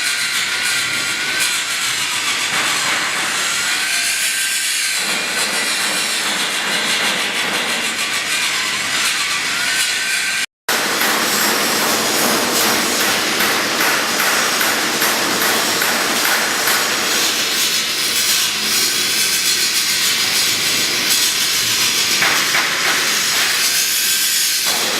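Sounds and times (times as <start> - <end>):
angle grinder grinding steel: 0.0 - 10.4, 11.3 - 24.9.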